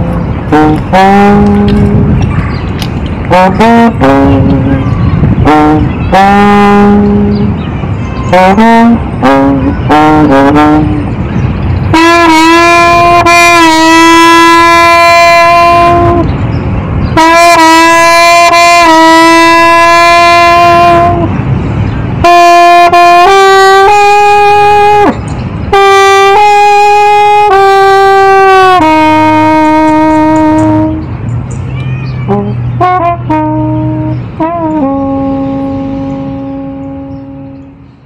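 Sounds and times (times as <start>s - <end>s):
wind instrument slow melody: 0.0s - 2.3s, 3.2s - 37.9s.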